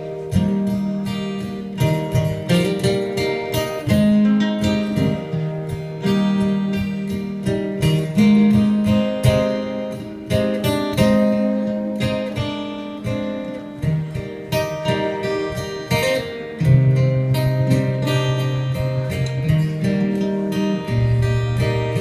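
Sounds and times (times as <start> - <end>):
acoustic guitar picking chords: 0.0 - 22.0.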